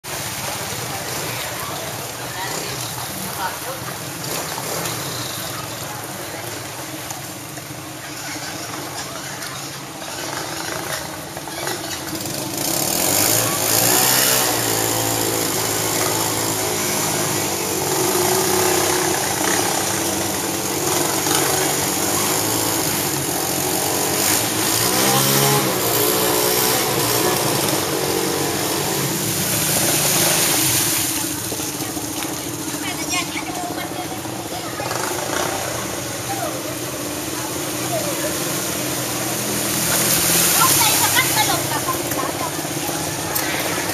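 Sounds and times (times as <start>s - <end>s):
small motorbike engines revving: 0.0s - 43.9s
water splashing: 0.0s - 43.9s.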